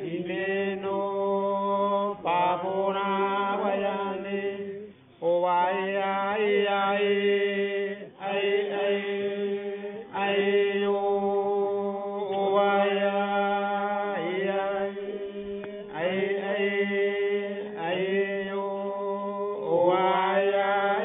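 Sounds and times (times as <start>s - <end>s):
chanted vocal music: 0.0s - 21.0s.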